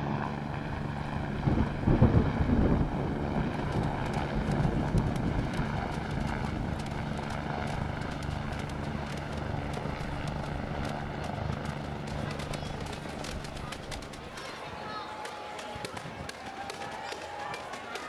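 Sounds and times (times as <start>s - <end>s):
helicopter rotor and engine drone: 0.0s - 18.0s.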